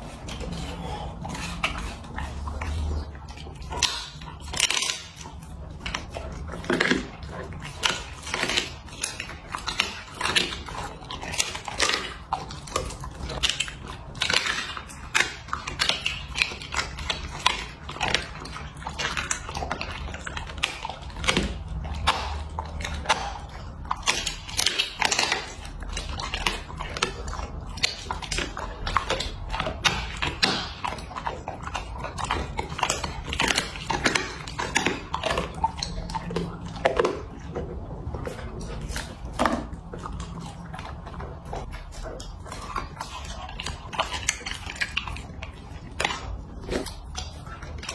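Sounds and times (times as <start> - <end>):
dog chewing and crunching bones: 0.0 - 47.9.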